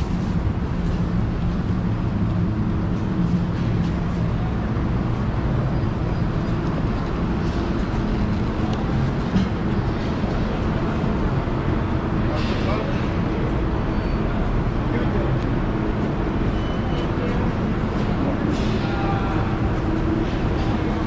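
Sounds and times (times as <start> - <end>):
indoor market hubbub: 0.0 - 21.0.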